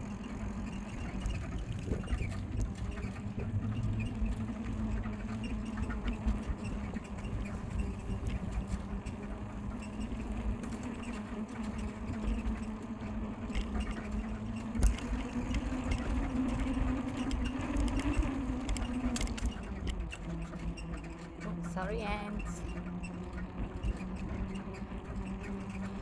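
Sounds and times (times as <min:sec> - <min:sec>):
bicycle squeaking and creaking: 0:00.0 - 0:21.7, 0:22.6 - 0:26.0.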